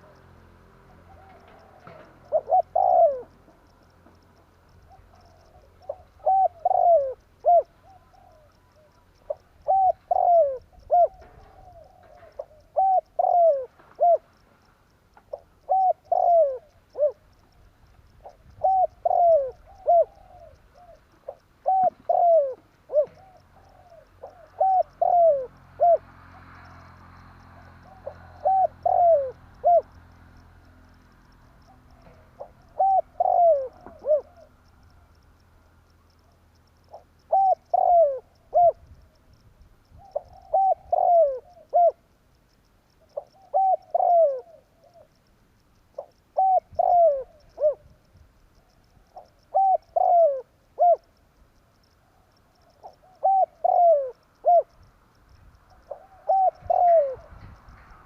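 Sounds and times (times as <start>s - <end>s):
dove cooing: 0.0s - 14.4s, 15.2s - 30.4s, 31.4s - 35.2s, 36.2s - 42.1s, 43.0s - 45.2s, 46.0s - 48.0s, 48.8s - 51.2s, 52.0s - 54.8s, 55.7s - 57.9s.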